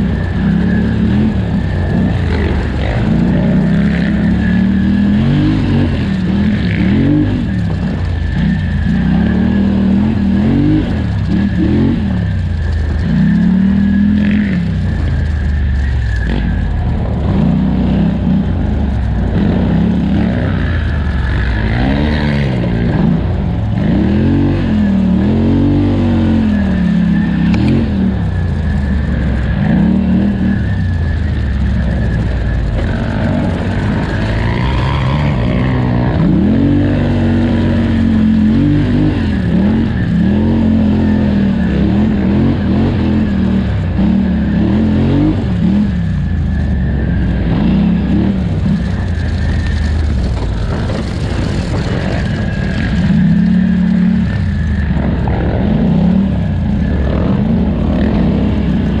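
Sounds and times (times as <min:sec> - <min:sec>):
engine revving at full throttle: 0:00.0 - 0:59.0.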